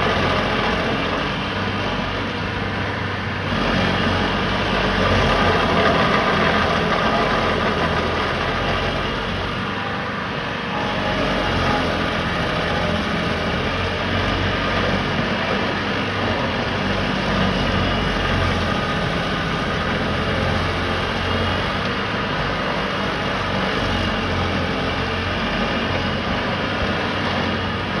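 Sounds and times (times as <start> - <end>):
stump grinder grinding: 0.0 - 10.1, 10.7 - 28.0.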